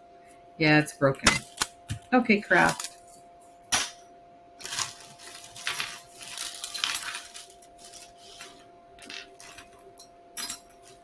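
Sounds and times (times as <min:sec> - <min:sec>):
jewelry clinking and rustling: 0:00.8 - 0:03.7, 0:04.6 - 0:11.0.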